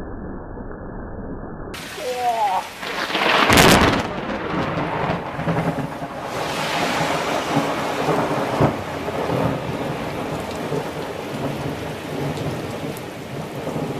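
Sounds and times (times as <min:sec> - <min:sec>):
heavy rain: 0:01.8 - 0:13.9
rolling thunder: 0:01.8 - 0:13.9
sharp thunder crack: 0:01.8 - 0:13.9.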